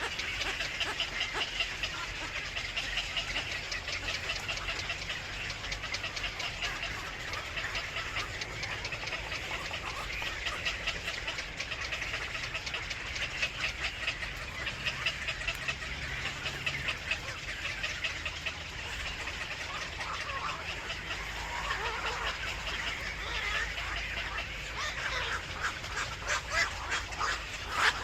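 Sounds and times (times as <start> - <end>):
birds chirping: 0.0 - 28.0
low steady rumble: 0.0 - 28.0.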